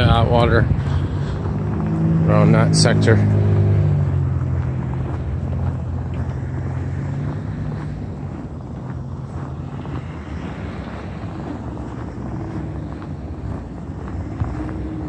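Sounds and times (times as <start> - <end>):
passing street traffic rumble: 0.0 - 15.0
wind on microphone: 0.0 - 15.0.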